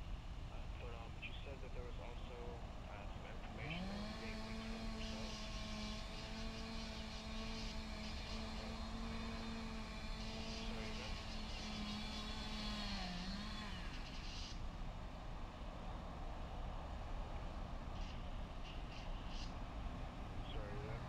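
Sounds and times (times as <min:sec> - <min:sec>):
power unit engine running: 0:00.0 - 0:21.0.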